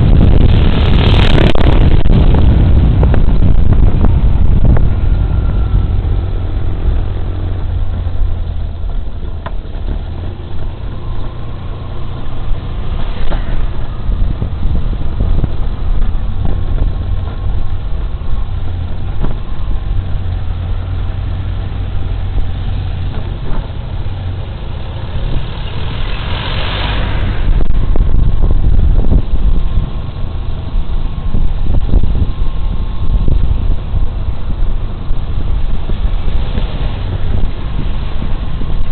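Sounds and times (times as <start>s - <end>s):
scooter engine and wind rumble: 0.0s - 38.9s.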